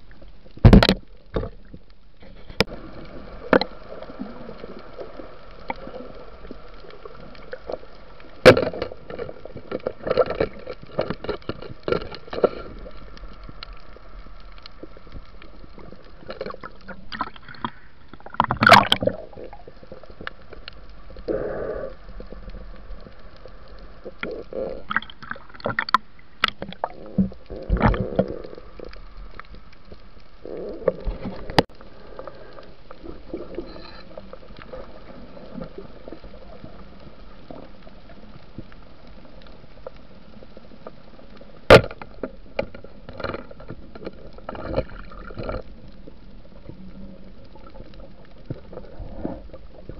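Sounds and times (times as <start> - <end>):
faint steady hum: 0.0 - 49.9
underwater bubbling and gurgling: 0.0 - 49.9.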